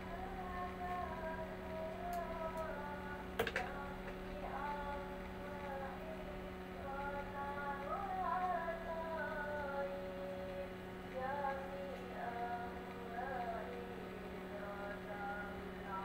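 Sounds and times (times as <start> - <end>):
low electrical hum: 0.0 - 16.0
woman singing: 0.0 - 16.0.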